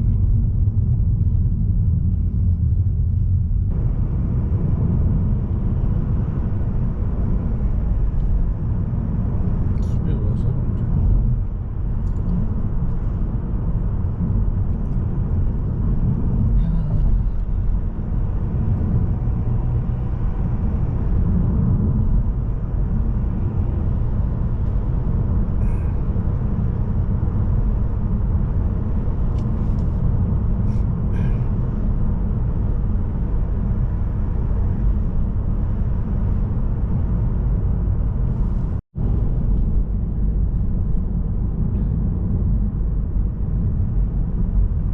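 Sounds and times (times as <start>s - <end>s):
car road and engine noise: 0.0s - 44.9s.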